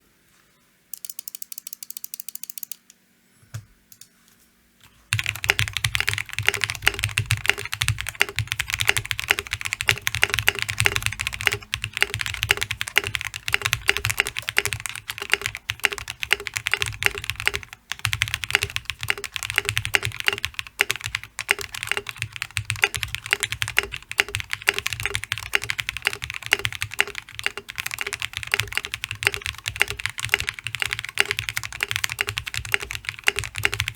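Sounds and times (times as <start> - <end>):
mechanical keyboard typing: 1.0 - 2.9, 5.1 - 33.9.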